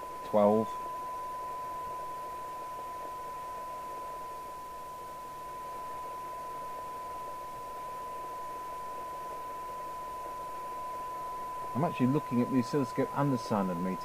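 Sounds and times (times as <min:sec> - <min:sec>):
receiver noise hiss: 0:00.0 - 0:14.0
steady test tone from radio speaker: 0:00.0 - 0:14.0.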